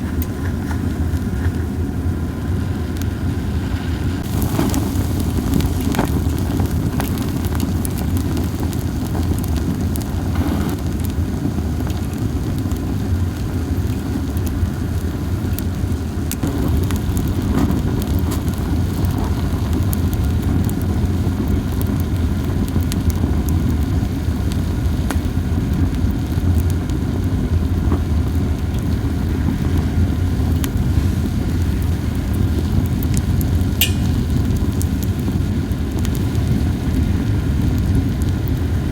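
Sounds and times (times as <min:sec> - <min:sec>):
campfire low rush: 0:00.0 - 0:38.9
fire crackling and popping: 0:00.0 - 0:38.9.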